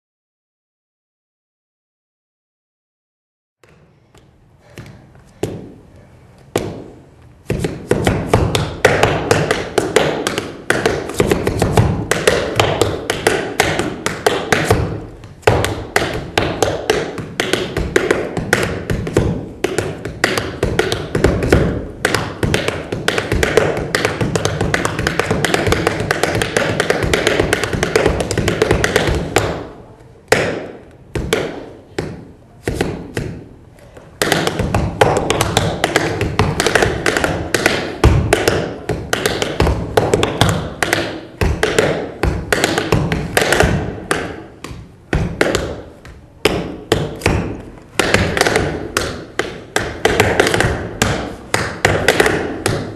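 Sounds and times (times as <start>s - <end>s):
tap shoes on hard floor: 6.4s - 29.7s, 30.3s - 52.9s.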